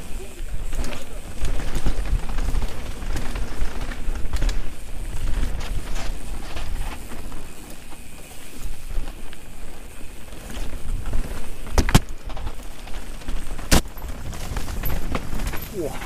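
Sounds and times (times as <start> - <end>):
bike rattling: 0.0 - 16.0
tyres rumbling on dirt: 0.0 - 16.0.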